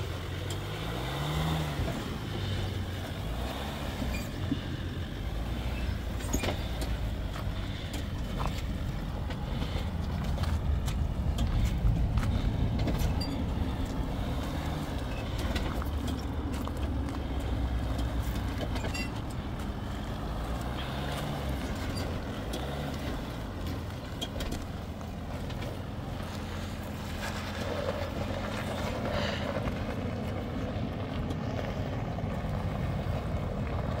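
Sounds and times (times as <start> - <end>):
engine running at low revs: 0.0 - 34.0
tires knocking and scraping on rock: 0.0 - 34.0.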